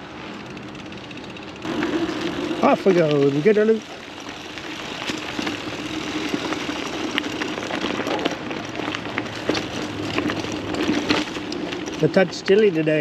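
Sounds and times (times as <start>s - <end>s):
mountain bike rolling: 0.0s - 13.0s
tyre and bike rattles: 0.0s - 13.0s.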